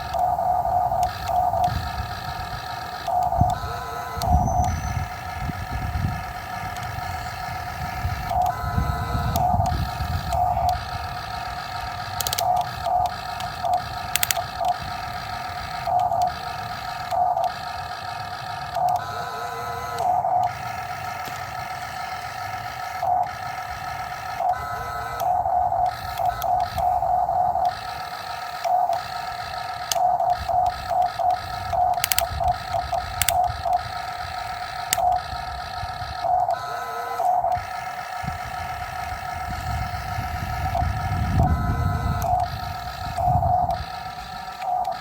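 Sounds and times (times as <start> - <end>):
excavator engine whine: 0.0 - 45.0.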